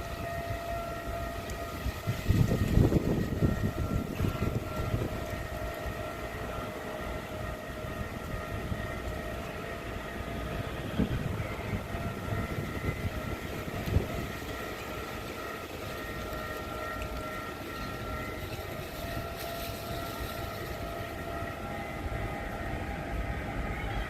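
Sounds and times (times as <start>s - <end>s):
level crossing alarm tone: 0.0s - 24.0s
passing train rumble: 0.0s - 24.0s.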